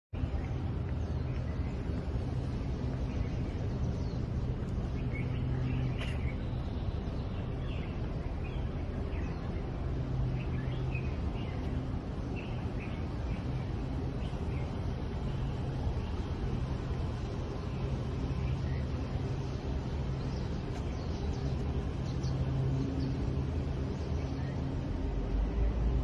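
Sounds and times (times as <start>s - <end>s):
small birds chirping: 0.2s - 25.8s
steady low hum: 0.2s - 26.0s.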